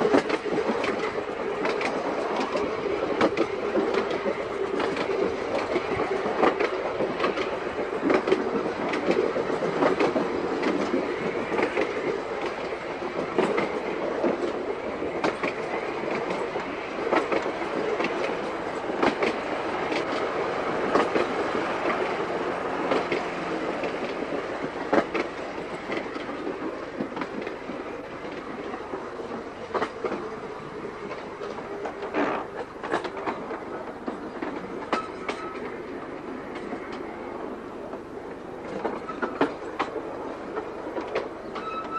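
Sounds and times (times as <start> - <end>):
electric tram humming: 0.0 - 41.9
wheels clacking over rail joints: 0.0 - 41.9.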